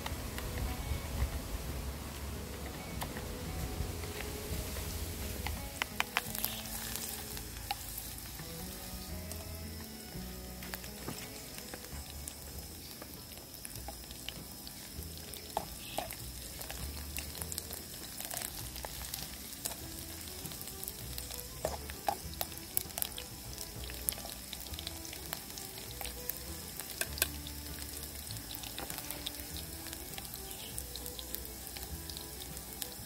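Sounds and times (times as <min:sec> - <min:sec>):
background music with low notes: 0:00.0 - 0:33.0
food sizzling in a pot: 0:00.0 - 0:33.0.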